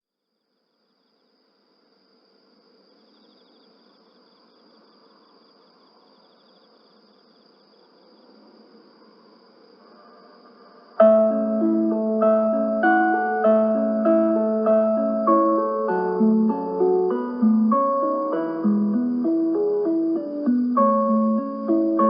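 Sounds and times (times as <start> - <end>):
faint background hiss: 0.1 - 22.0
insect chirping in rapid pulses: 0.2 - 22.0
insect high trill: 0.3 - 22.0.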